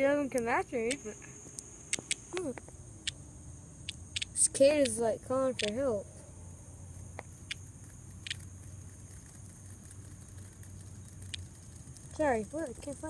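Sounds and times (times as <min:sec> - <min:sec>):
chorus of calling insects: 0:00.0 - 0:13.0
low hum: 0:00.0 - 0:13.0.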